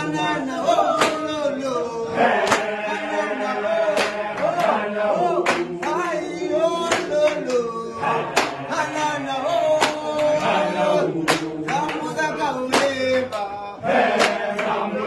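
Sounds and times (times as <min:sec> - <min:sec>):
hand claps: 0:00.0 - 0:01.5, 0:02.3 - 0:15.0
men singing together: 0:00.0 - 0:15.0.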